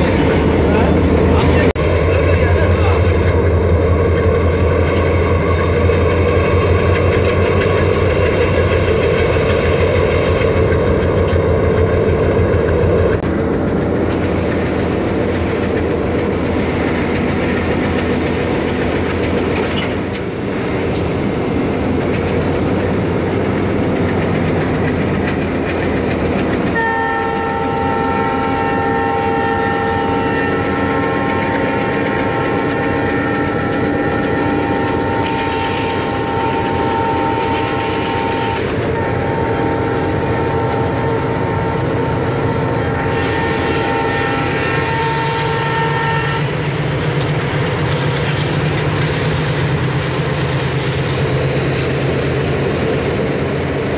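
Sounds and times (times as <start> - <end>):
diesel locomotive engine hum: 0.0 - 53.9.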